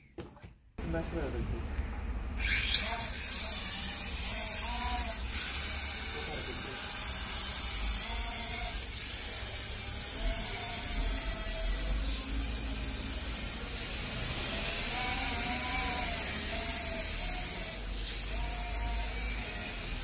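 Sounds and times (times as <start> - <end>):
drone propellers whining: 2.4 - 20.0.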